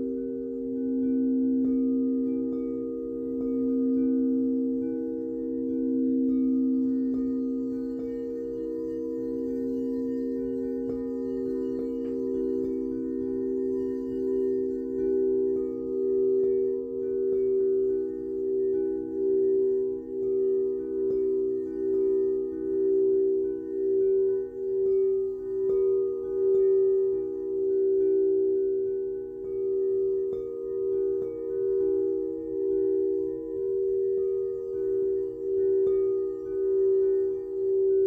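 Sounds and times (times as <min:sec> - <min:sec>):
singing bowls ringing: 0:00.0 - 0:38.0.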